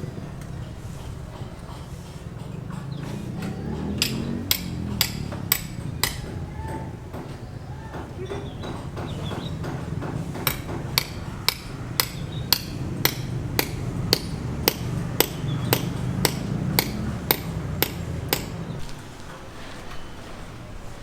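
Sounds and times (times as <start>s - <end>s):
hammer blows ringing: 0.6s - 18.8s.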